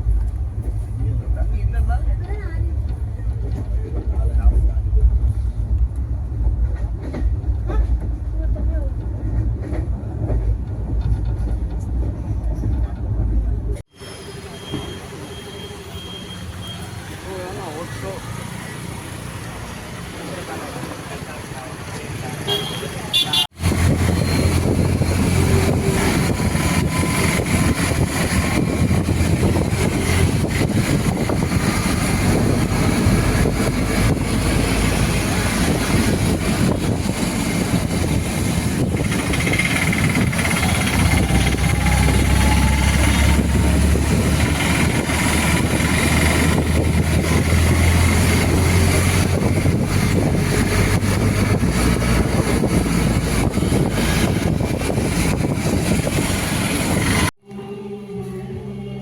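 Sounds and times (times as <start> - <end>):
passenger train rumbling: 0.0 - 57.4.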